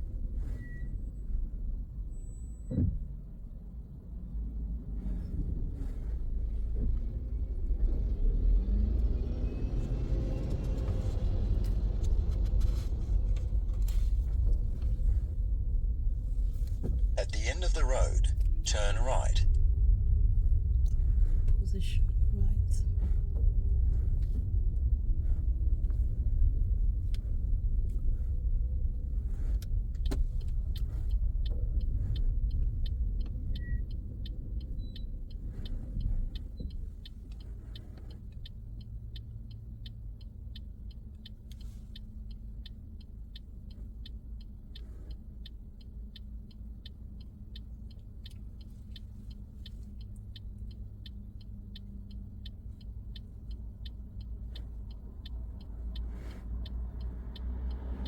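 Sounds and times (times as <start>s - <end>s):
car engine and road rumble: 0.0s - 58.0s
turn indicator ticking: 6.3s - 58.0s.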